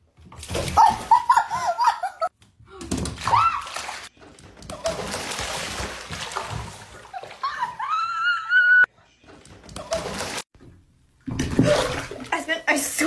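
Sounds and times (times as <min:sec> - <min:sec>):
water splashing in a bathtub: 0:00.0 - 0:13.0.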